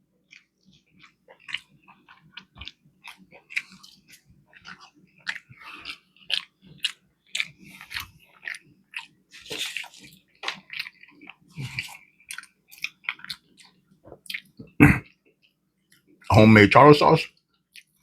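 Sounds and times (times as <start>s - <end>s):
chewing with mouth smacks: 0.2s - 16.3s, 17.3s - 18.0s.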